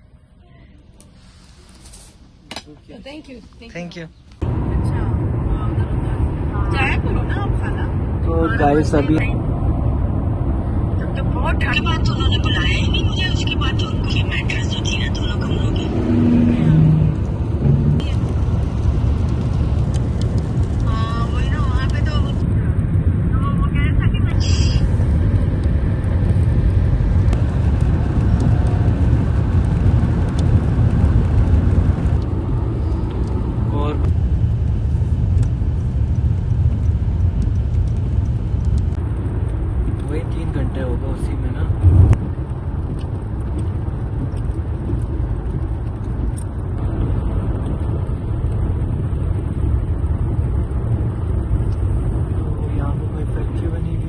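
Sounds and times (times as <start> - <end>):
car road noise: 4.2 - 54.0
engine and tyre rumble: 4.2 - 54.0.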